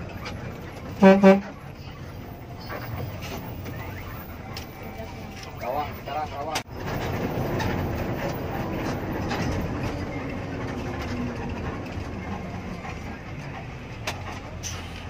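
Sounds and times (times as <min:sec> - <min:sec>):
bus engine and tyre rumble: 0:00.0 - 0:15.0.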